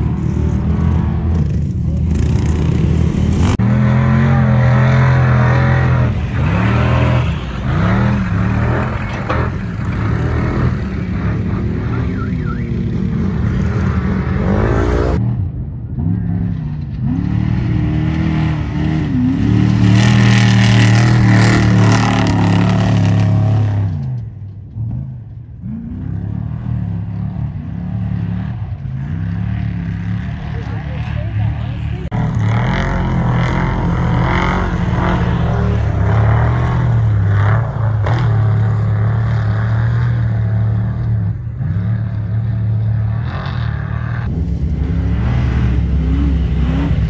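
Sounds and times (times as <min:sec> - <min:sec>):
truck engines racing by: 0:00.0 - 0:47.0.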